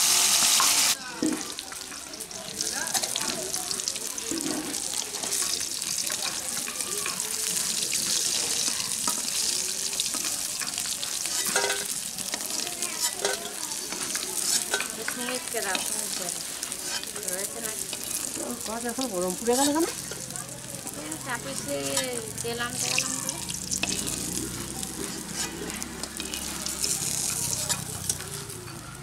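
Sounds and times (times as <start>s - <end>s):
fish sizzling in hot oil: 0.0s - 29.0s
metal spatula scraping a pan: 4.4s - 20.3s, 21.4s - 28.8s.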